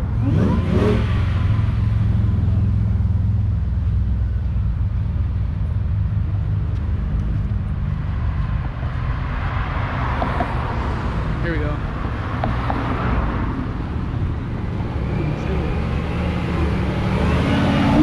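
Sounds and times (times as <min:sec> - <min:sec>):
car engine and exhaust rumbling: 0:00.0 - 0:18.0.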